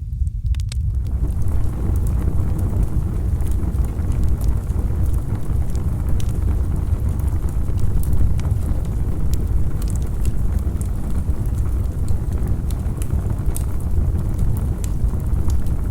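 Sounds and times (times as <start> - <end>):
campfire crackling: 0.2 - 15.9.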